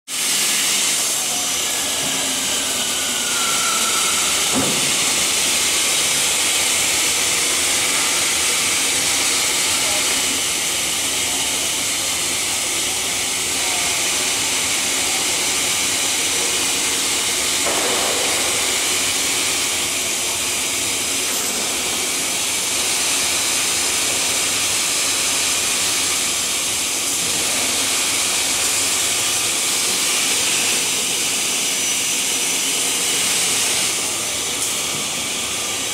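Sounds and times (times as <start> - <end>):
cutting saw hissing: 0.1 - 35.9.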